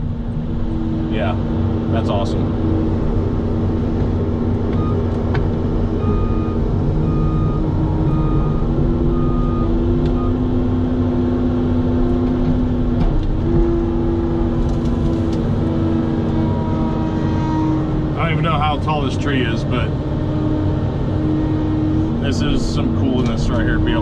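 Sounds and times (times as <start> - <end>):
excavator diesel engine and hydraulics: 0.0 - 24.0.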